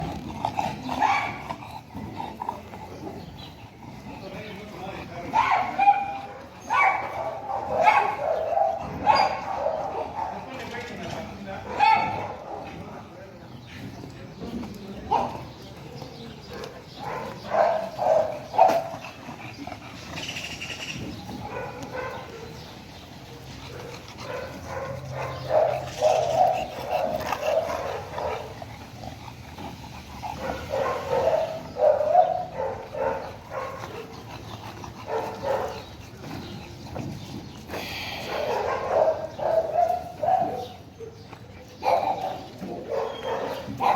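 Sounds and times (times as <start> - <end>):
dogs barking: 0.0 - 13.2, 15.0 - 43.9.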